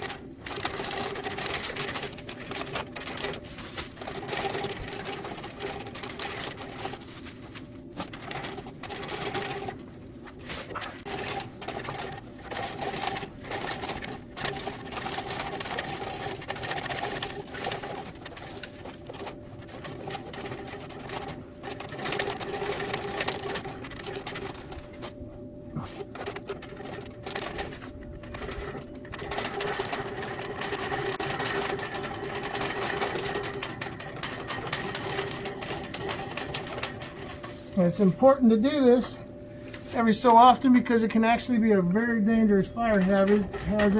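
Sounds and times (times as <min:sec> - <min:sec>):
dryer blower humming: 0:00.0 - 0:43.9.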